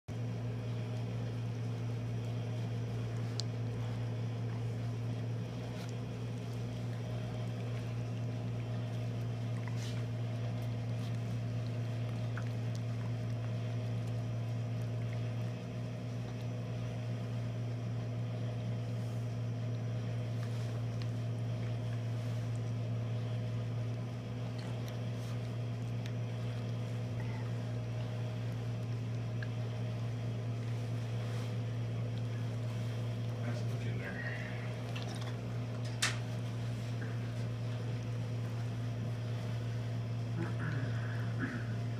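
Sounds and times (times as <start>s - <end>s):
low electrical hum: 0.1s - 41.9s.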